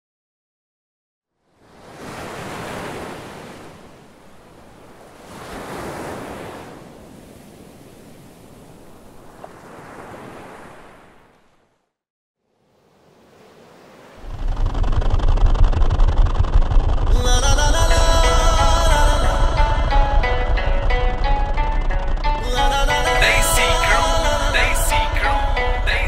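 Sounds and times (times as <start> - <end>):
surf-like rushing noise: 1.6 - 11.2, 12.6 - 26.0.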